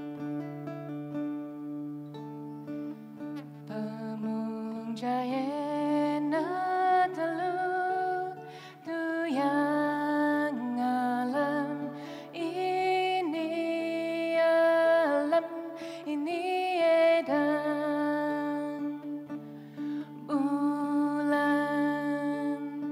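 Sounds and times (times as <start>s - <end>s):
plucked lute drone: 0.0s - 22.9s
woman singing slow melody: 3.4s - 22.9s.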